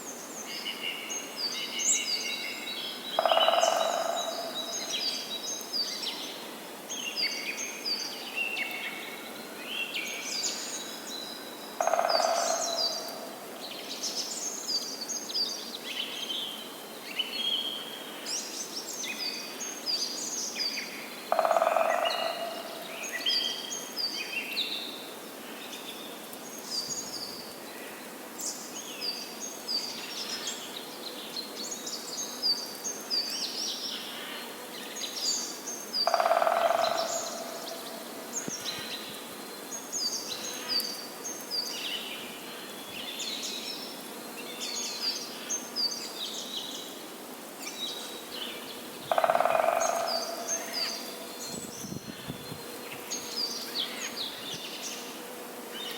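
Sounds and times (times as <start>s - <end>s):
steady background hiss: 0.0s - 55.9s.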